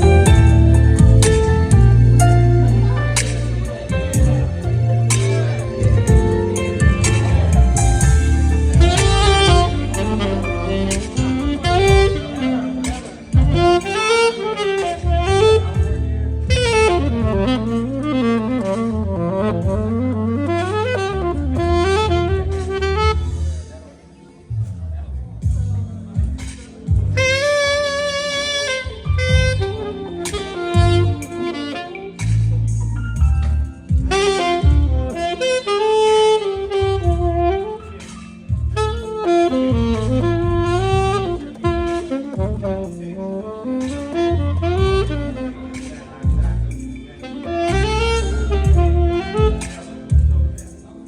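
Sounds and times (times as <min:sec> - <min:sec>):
bass accompaniment: 0:00.0 - 0:51.0
saxophone jazz melody: 0:00.0 - 0:51.0.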